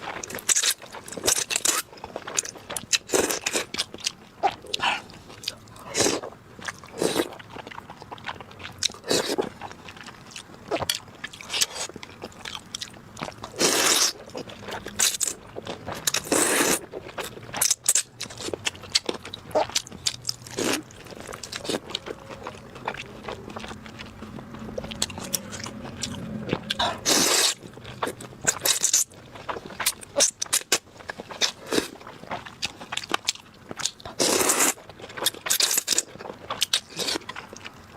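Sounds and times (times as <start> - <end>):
crunching and chewing: 0.0 - 37.9.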